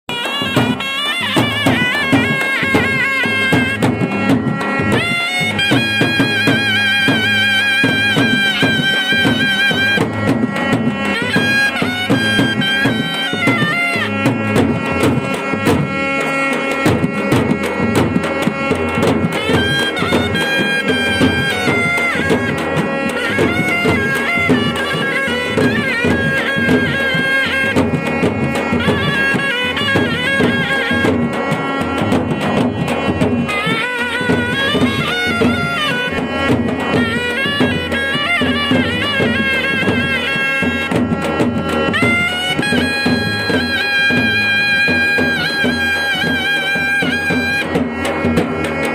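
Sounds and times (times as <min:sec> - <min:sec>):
fast continuous drumming: 0:00.1 - 0:48.9
reedy wind melody: 0:00.1 - 0:48.9.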